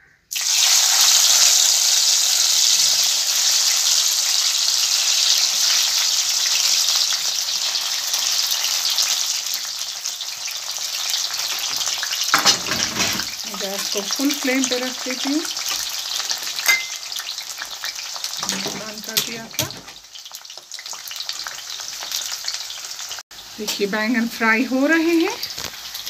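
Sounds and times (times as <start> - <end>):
vegetable strips frying in oil: 0.3 - 26.0.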